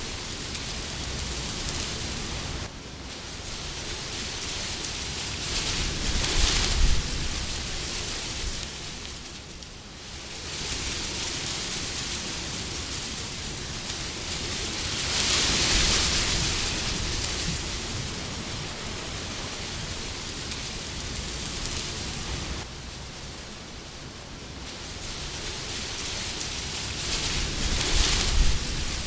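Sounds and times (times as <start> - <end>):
wind blowing: 0.0 - 29.0.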